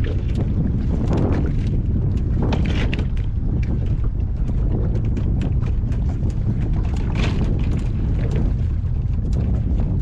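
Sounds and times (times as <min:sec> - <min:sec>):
boat motor running: 0:00.0 - 0:10.0
wind buffeting microphone: 0:00.0 - 0:10.0.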